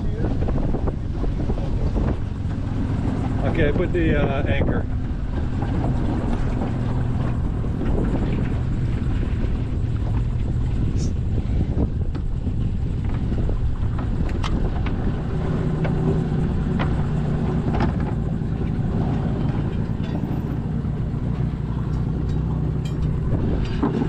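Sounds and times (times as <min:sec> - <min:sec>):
outboard motor running: 0:00.0 - 0:24.0
water noise: 0:00.0 - 0:24.0
wind: 0:00.0 - 0:24.0.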